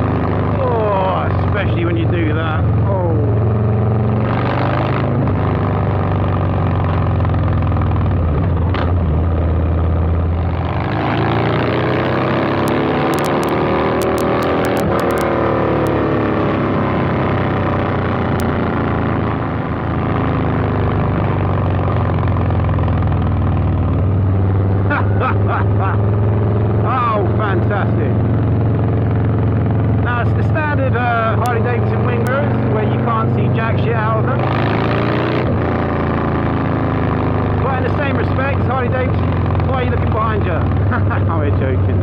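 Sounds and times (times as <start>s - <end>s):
motorcycle engine while riding: 0.0s - 42.0s.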